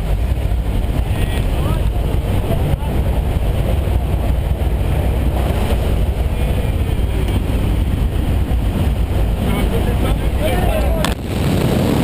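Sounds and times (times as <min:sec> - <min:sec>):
aircraft engine and propeller drone: 0:00.0 - 0:12.0
rushing air: 0:00.0 - 0:12.0.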